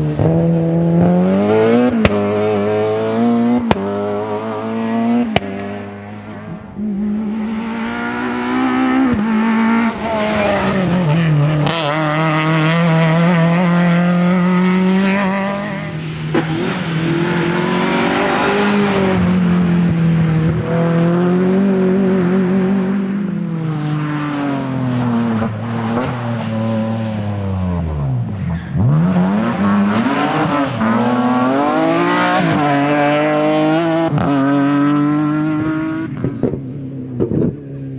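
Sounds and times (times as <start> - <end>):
rally car engines revving: 0.0 - 37.9.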